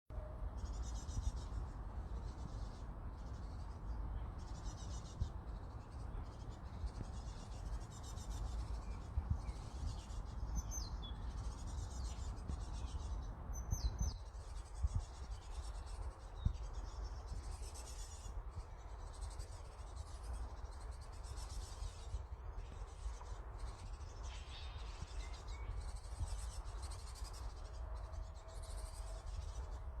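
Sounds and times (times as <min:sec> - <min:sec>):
bird chirp: 0:00.1 - 0:30.0
wind buffeting microphone: 0:00.1 - 0:30.0.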